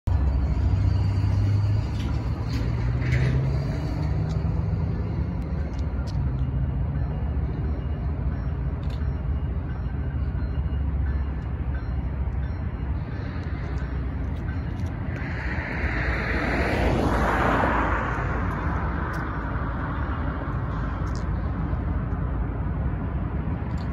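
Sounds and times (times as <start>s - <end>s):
diesel locomotive engines rumbling: 0.1s - 23.9s.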